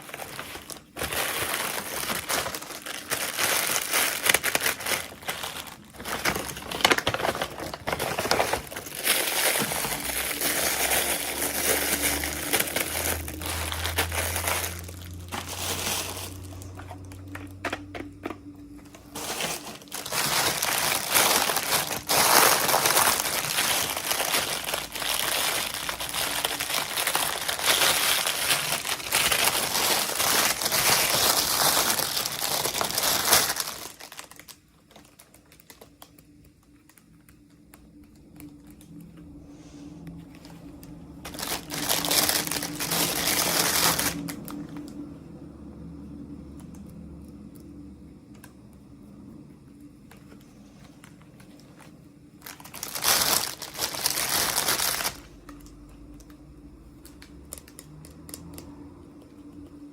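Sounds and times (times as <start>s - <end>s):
plastic packaging crinkling: 0.0s - 39.2s, 40.1s - 45.1s, 50.2s - 58.6s.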